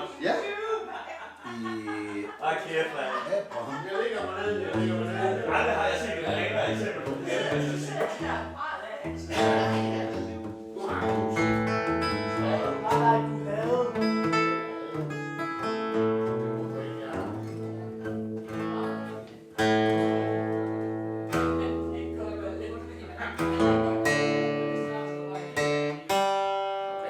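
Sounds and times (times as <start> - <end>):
acoustic guitar strumming chords: 4.4 - 27.0.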